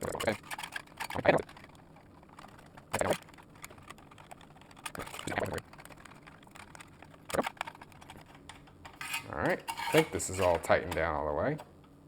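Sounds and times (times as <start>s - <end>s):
screwdriver rapid clicking: 0.0s - 11.1s.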